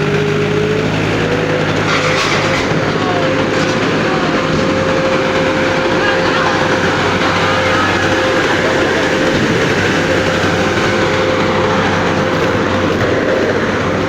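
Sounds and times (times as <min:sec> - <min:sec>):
heavy vehicle engine running: 0:00.0 - 0:14.0
steady whine: 0:00.0 - 0:14.0.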